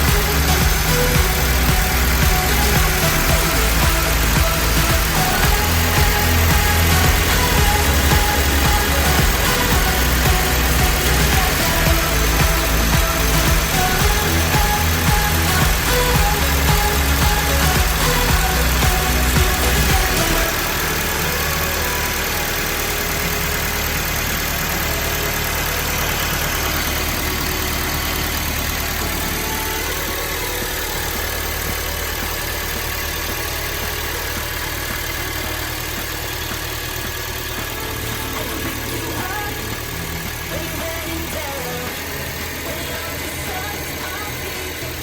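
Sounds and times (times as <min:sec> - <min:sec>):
van engine idling: 0:00.0 - 0:45.0.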